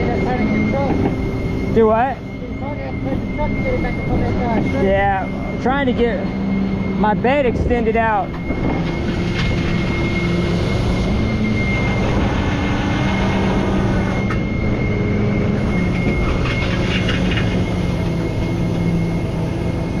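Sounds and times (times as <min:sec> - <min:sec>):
thin high whine: 0:00.0 - 0:20.0
tow truck engine and hydraulics: 0:00.0 - 0:20.0.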